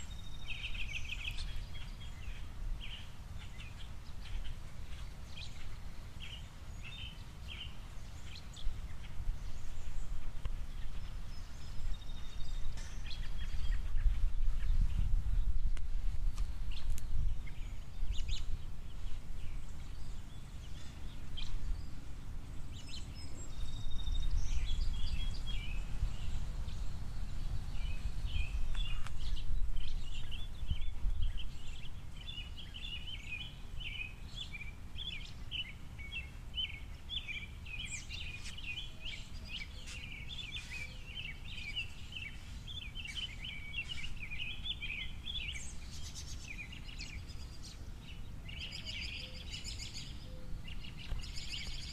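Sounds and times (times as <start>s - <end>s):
low rumbling background noise: 0.0s - 51.9s
songbirds chirping and twittering: 0.0s - 51.9s.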